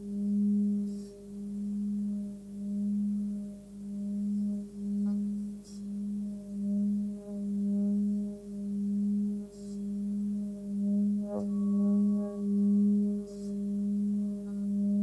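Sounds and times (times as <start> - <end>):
singing bowl humming: 0.0 - 15.0.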